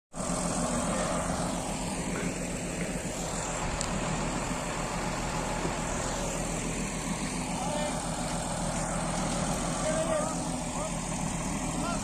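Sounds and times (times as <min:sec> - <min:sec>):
bulldozer diesel engine running: 0:00.1 - 0:12.0.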